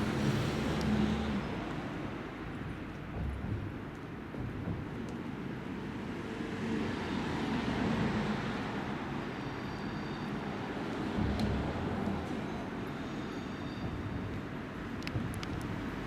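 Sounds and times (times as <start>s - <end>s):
train rumbling: 0.0s - 7.0s, 7.8s - 16.0s.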